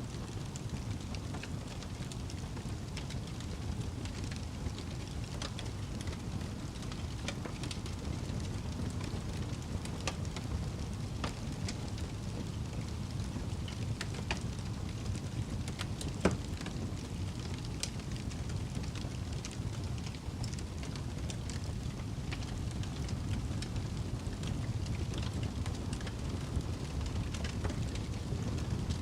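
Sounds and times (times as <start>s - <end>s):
fire crackling and popping: 0.0s - 29.0s
fire flames rumbling: 0.0s - 29.0s.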